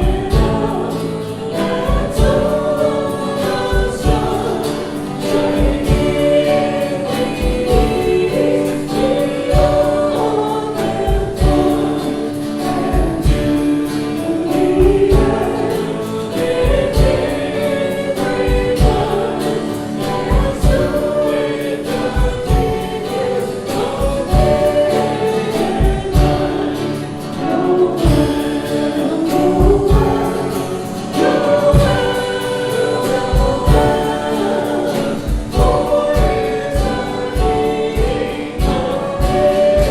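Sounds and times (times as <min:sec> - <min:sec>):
group singing worship song: 0:00.0 - 0:39.9.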